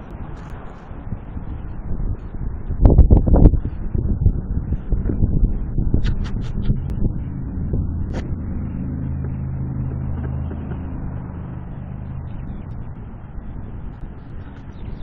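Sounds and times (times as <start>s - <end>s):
low rumble: 0.0s - 15.0s
vehicle engine humming: 0.0s - 15.0s.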